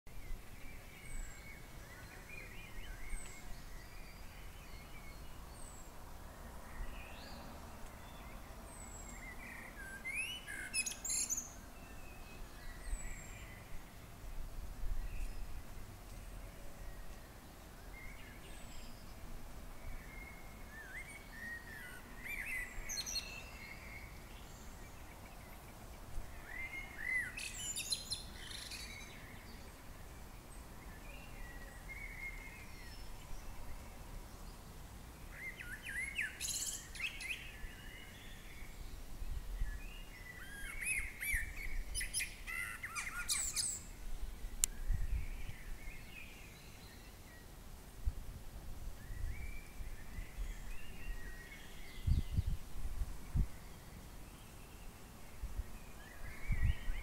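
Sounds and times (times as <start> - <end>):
small birds chirping: 0.1 - 14.0, 14.9 - 47.7, 48.9 - 57.0.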